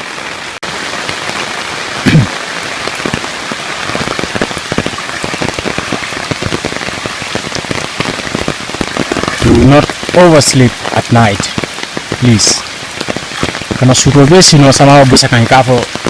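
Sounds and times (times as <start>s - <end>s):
heavy rain falling: 0.0s - 16.0s
raindrops striking close by: 0.0s - 16.0s.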